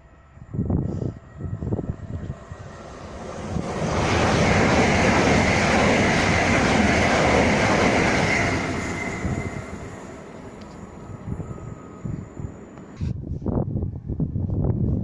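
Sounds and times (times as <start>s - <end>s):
train passing: 0.0s - 14.1s.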